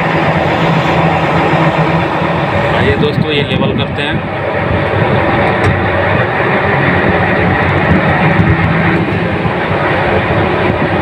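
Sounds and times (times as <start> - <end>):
crane diesel engine running: 0.0 - 11.0.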